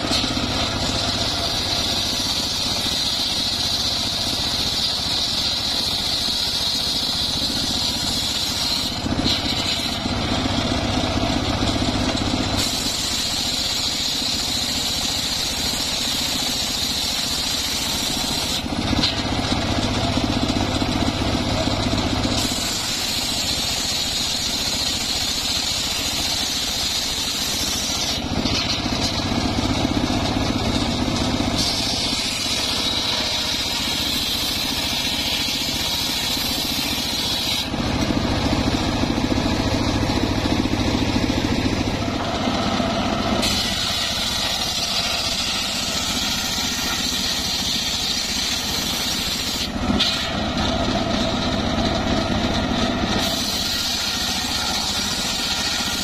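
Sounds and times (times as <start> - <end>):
circular saw blade whining: 0.0 - 56.0
saw blade cutting wood: 0.0 - 56.0.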